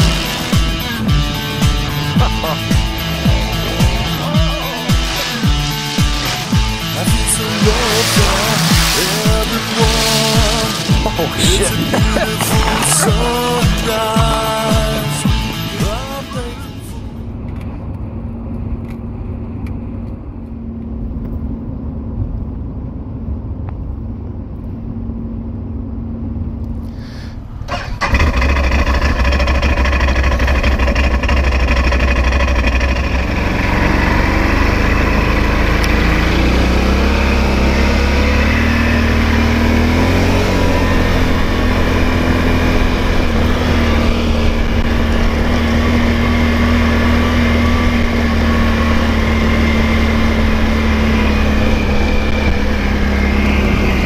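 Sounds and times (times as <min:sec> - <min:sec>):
atv engine revving: 0:00.0 - 0:17.2, 0:27.6 - 0:54.0
road noise inside vehicle: 0:00.0 - 0:54.0.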